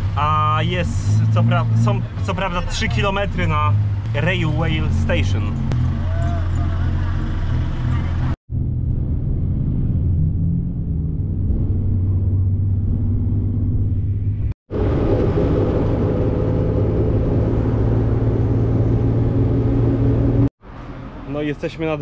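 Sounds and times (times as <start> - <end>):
motor rickshaw engine hum: 0.0 - 21.5.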